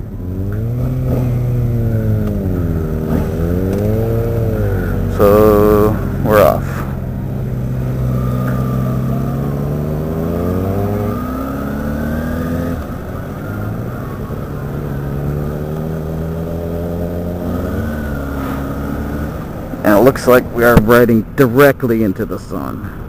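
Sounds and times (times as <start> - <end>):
motorcycle engine accelerating: 0.0 - 21.5.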